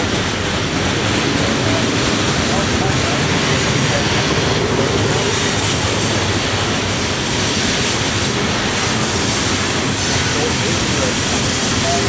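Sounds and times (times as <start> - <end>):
train cars rolling on rails: 0.0 - 12.0.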